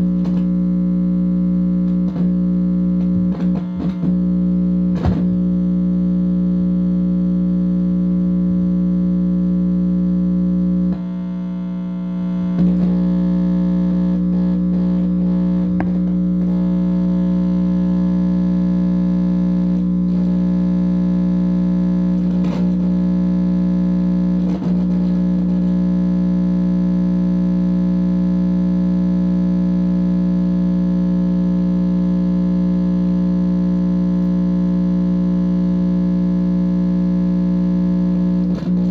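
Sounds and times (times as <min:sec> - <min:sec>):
distorted amplifier buzz: 0:00.0 - 0:38.9.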